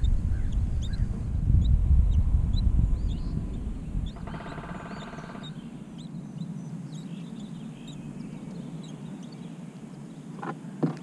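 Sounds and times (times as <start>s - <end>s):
rapid pulsing buzz: 0.0s - 10.9s
birds chirping: 0.0s - 11.0s
low background hum: 0.0s - 11.0s.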